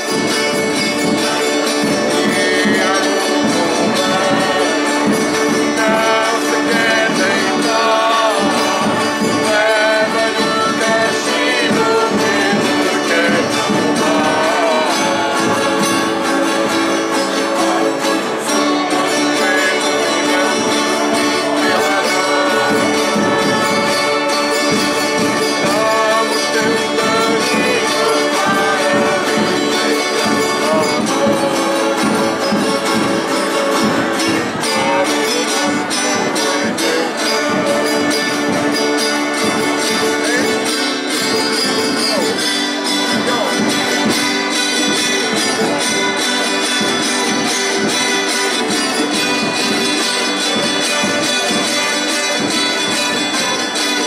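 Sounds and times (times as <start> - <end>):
folk string ensemble strumming: 0.0 - 54.0.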